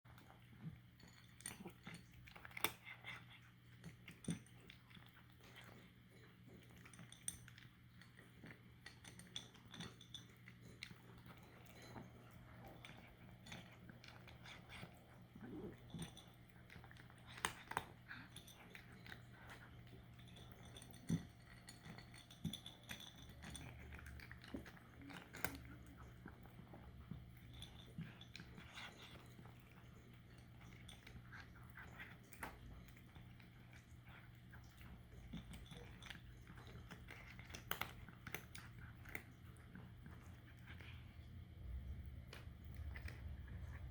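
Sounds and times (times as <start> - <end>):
cat crunching dry kibble: 0.1 - 43.9.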